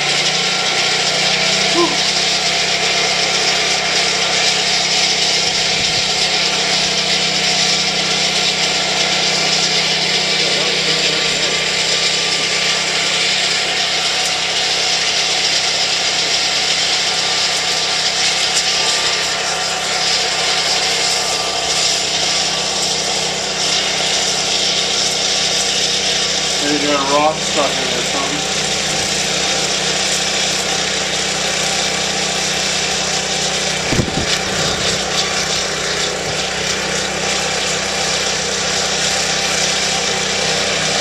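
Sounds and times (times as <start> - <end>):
snowblower whirring and rattling: 0.0 - 41.0
tractor engine running: 0.0 - 41.0.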